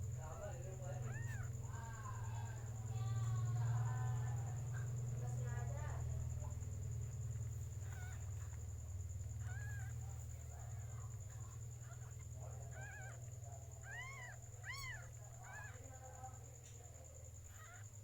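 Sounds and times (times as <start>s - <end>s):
kittens mewing: 0.0s - 18.0s
steady low hum: 0.0s - 18.0s.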